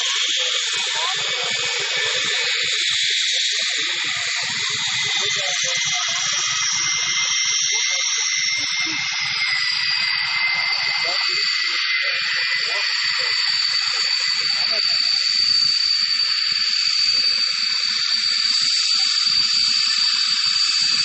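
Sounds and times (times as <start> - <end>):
jet engine roar with whine: 0.0 - 21.0.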